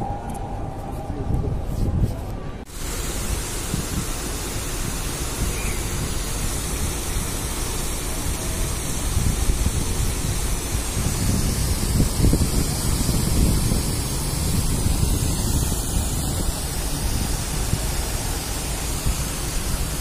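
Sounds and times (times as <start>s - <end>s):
wind buffeting microphone: 0.0s - 20.0s
road traffic: 2.6s - 20.0s
fountain cascading: 2.7s - 20.0s.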